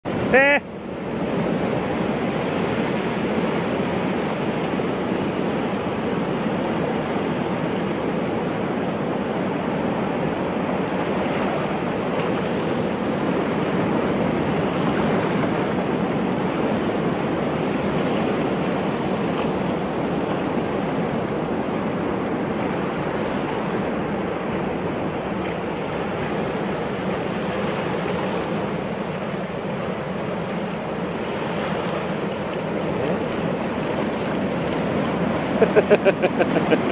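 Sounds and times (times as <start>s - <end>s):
ocean surf breaking: 0.1s - 36.9s.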